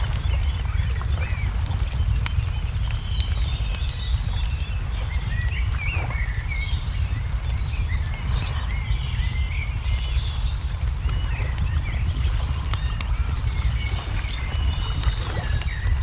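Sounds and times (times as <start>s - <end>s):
small birds chirping: 0.0s - 16.0s
steady low rumble: 0.0s - 16.0s
wood fire crackling: 0.0s - 16.0s.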